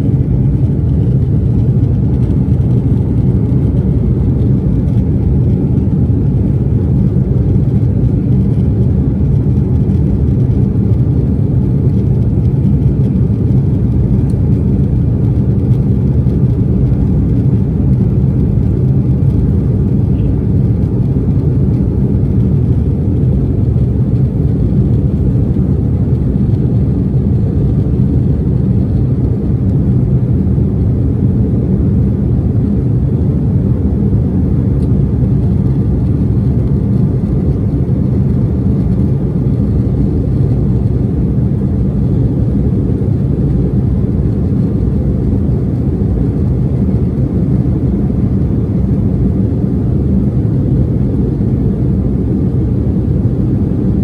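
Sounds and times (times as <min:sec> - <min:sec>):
jet engines in airplane cabin: 0:00.0 - 0:54.0.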